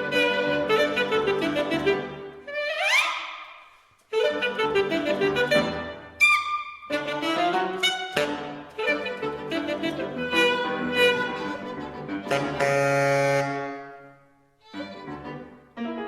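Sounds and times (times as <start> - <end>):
saxophone violin and piano trio: 0.0 - 3.5, 4.1 - 16.0.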